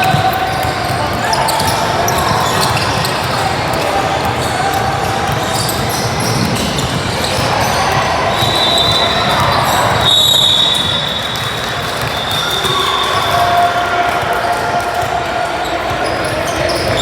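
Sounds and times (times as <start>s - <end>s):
basketballs bouncing on court: 0.0s - 17.0s
voices in hall: 0.0s - 17.0s.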